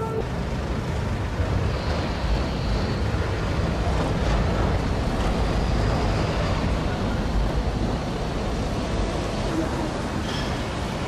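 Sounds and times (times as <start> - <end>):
city street rumble: 0.0 - 11.0.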